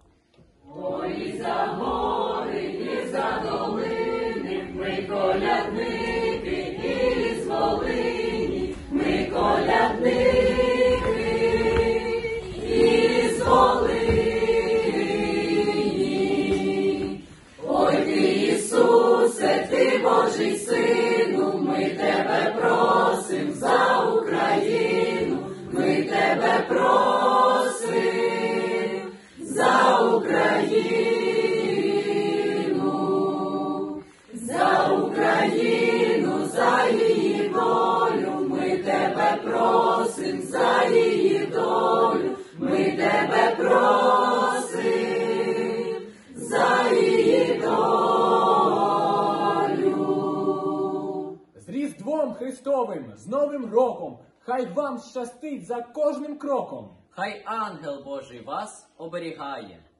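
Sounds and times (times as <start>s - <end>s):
mixed choir singing a carol: 0.0s - 51.6s.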